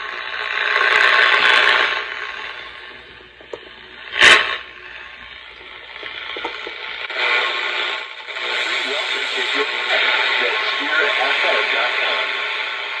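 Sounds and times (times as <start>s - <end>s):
radio playing through small speaker: 0.0s - 13.0s
radio static hiss: 0.0s - 13.0s
sharp crackle: 0.0s - 13.0s.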